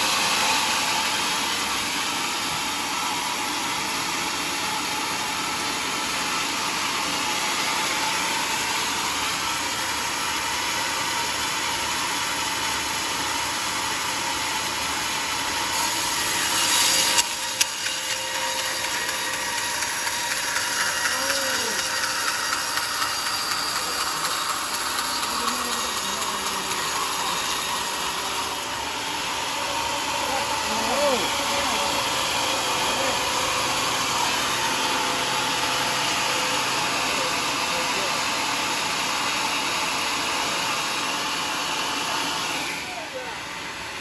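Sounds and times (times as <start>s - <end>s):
saw blade cutting timber: 0.0s - 44.0s.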